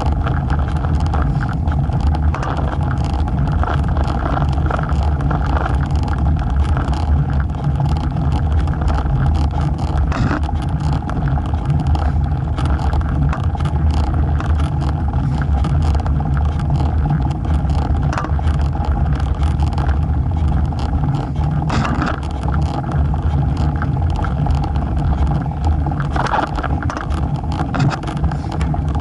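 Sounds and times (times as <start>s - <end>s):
small clicks and rattles: 0.0s - 29.0s
wind and road rumble: 0.0s - 29.0s.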